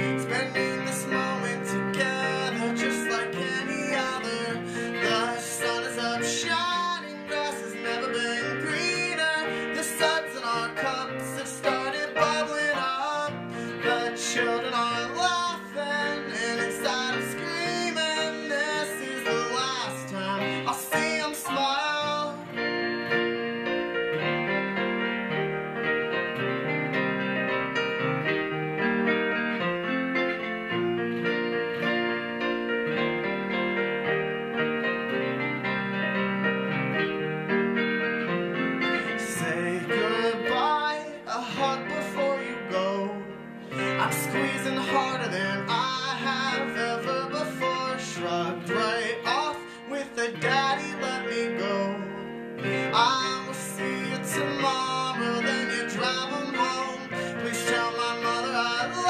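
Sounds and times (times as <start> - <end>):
acoustic guitar: 0.0 - 59.0
keyboard piano: 0.0 - 59.0.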